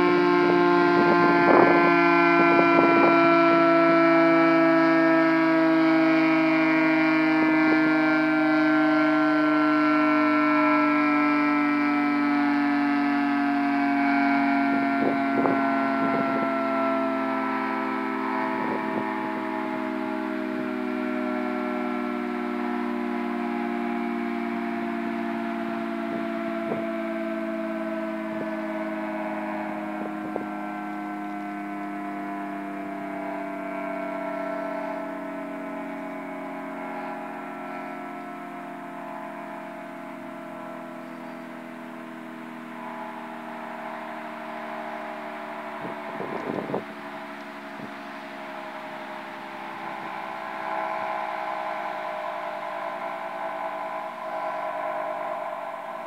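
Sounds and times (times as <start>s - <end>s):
electromechanical siren tone: 0.0s - 56.0s.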